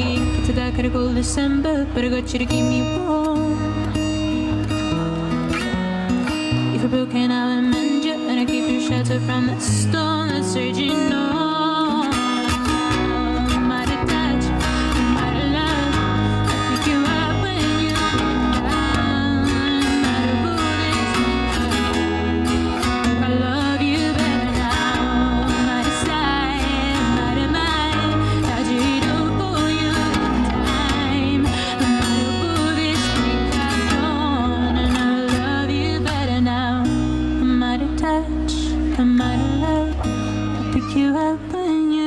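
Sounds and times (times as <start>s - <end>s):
electric bass guitar: 0.0s - 7.1s, 9.1s - 41.9s
acoustic guitar: 0.0s - 42.0s.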